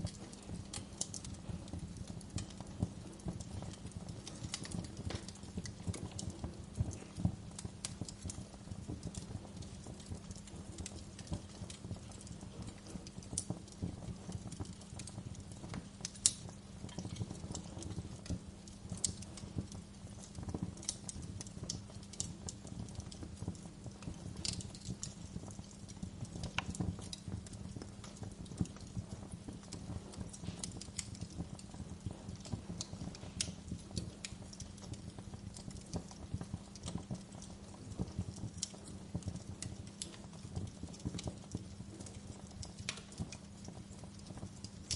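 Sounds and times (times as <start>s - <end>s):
low rumble of fire: 0.0s - 44.9s
wood fire popping and snapping: 0.0s - 44.9s.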